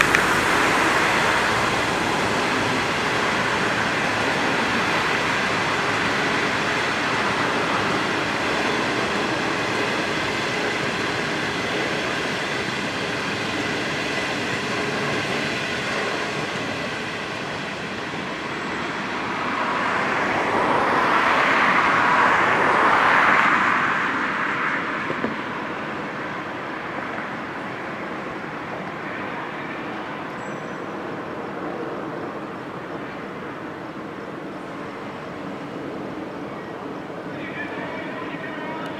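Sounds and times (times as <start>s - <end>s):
train wheels rushing on rail: 0.0s - 38.9s.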